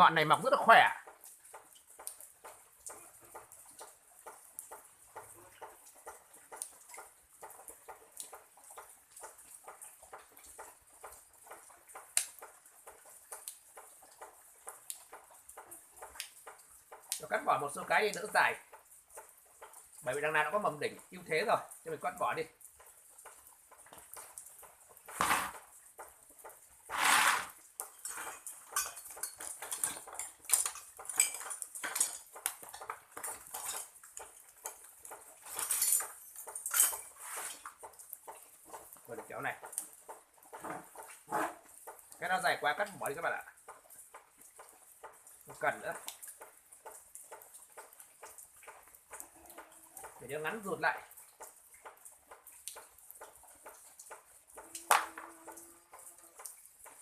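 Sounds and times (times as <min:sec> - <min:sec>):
raindrops dripping: 0:00.0 - 0:57.0.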